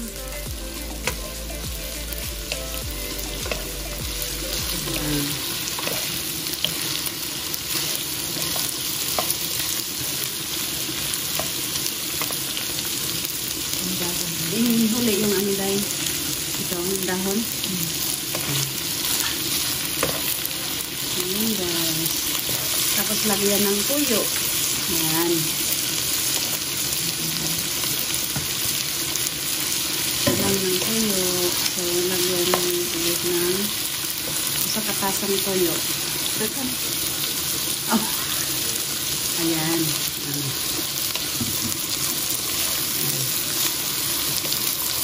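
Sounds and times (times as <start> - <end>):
meat and vegetables sizzling in wok: 0.0 - 45.0.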